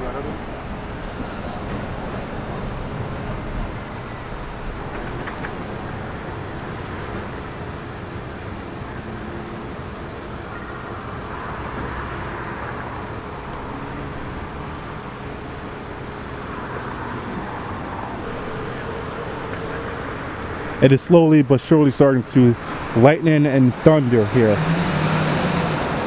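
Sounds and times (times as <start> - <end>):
outdoor background rumble and hiss: 0.0 - 26.0.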